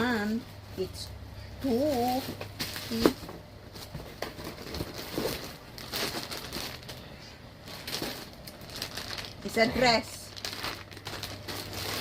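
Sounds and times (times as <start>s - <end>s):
faint steady hum: 0.0s - 12.0s
gift packaging rustling: 1.6s - 12.0s.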